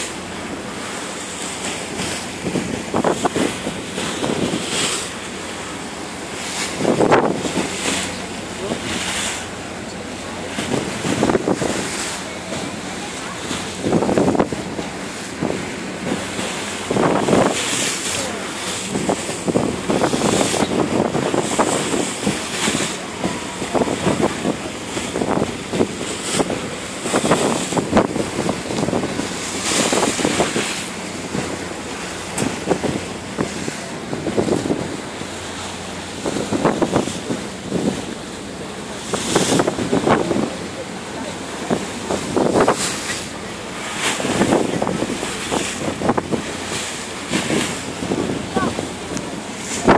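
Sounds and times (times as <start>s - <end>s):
sea water rushing along hull: 0.0s - 49.9s
wind buffeting microphone: 0.0s - 49.9s.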